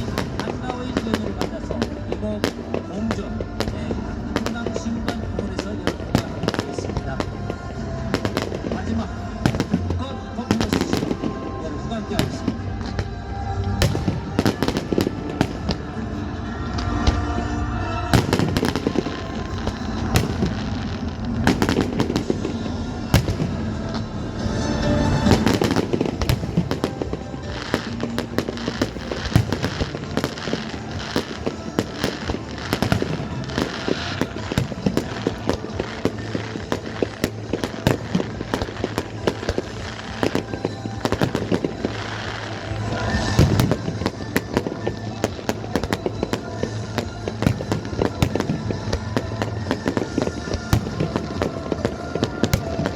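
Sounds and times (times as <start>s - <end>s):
fireworks bangs and crackling: 0.0s - 52.9s
music: 0.0s - 52.9s.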